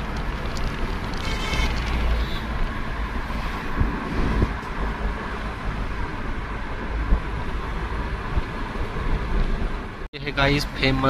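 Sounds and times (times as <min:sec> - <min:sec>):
wind buffeting microphone: 0:00.0 - 0:10.1
vehicle road noise rumble: 0:00.0 - 0:11.0.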